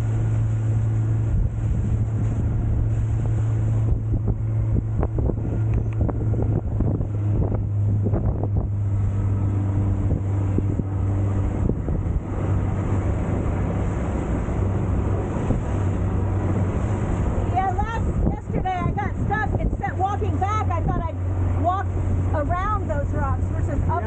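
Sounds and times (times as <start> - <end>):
boat motor running: 0.0 - 24.0
wind buffeting microphone: 0.0 - 24.0.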